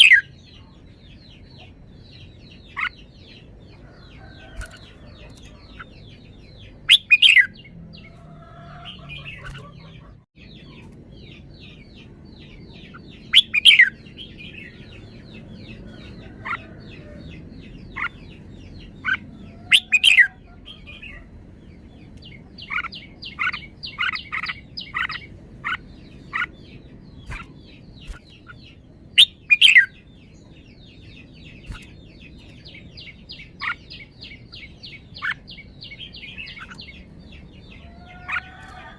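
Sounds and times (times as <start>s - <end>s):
chatter of other birds: 0.0s - 21.4s, 22.0s - 38.9s
bulbul singing: 0.0s - 38.9s.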